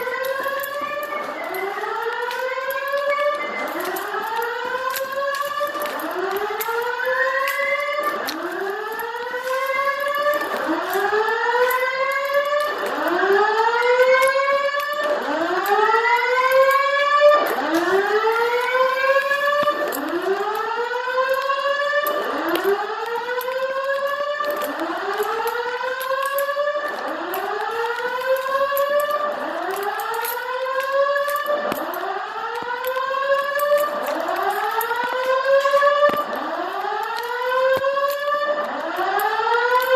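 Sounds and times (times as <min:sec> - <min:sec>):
rising whoop alarm tone: 0:00.0 - 0:39.9.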